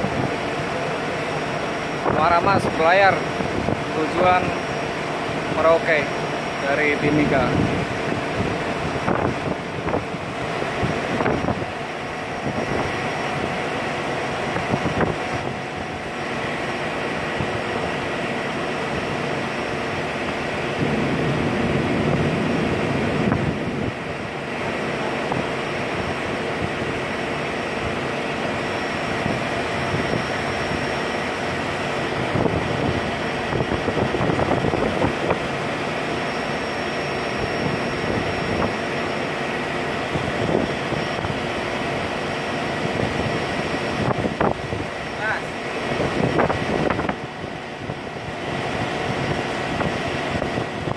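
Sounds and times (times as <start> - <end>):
ship engine drone: 0.0 - 50.9
thin steady whine: 0.0 - 50.9.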